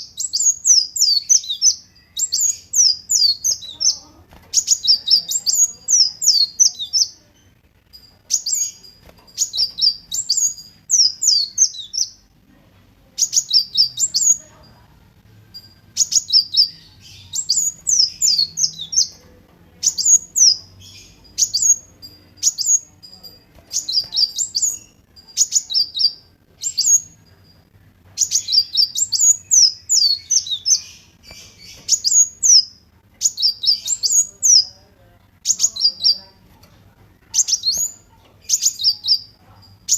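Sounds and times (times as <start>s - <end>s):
sunbird singing: 0.0s - 12.3s, 13.1s - 14.9s, 15.5s - 39.9s.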